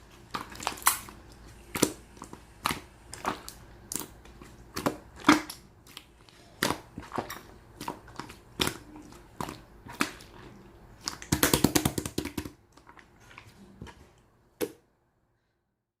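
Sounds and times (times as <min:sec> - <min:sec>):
slime squished by hand: 0:00.1 - 0:13.4.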